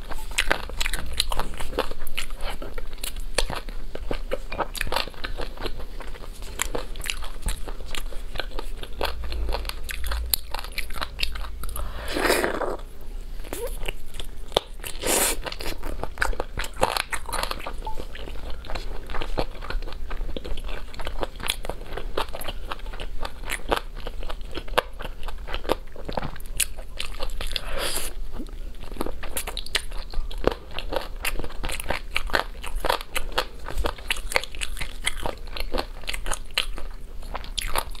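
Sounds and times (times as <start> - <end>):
person chewing: 0.0 - 38.0.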